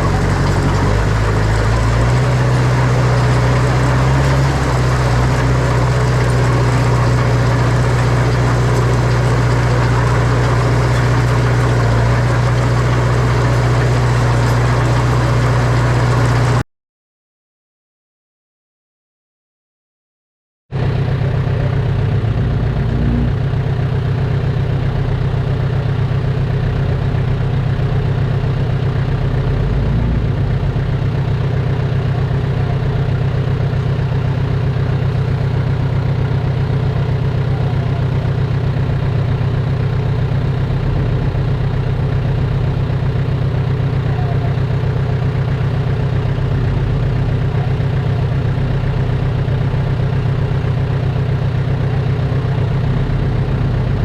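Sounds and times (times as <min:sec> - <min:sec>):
heavy diesel engine droning: 0:00.0 - 0:16.6, 0:20.8 - 0:54.0.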